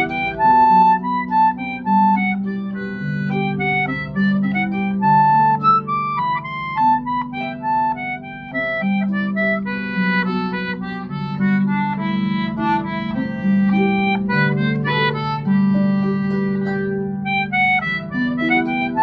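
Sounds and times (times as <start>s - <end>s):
concertina melody: 0.0s - 19.0s
harp plucking accompaniment: 0.0s - 19.0s.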